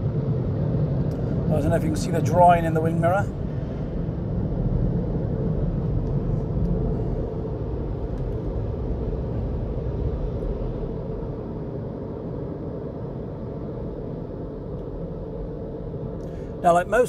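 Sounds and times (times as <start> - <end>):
car wash dryer blowers rumbling: 0.0 - 17.0.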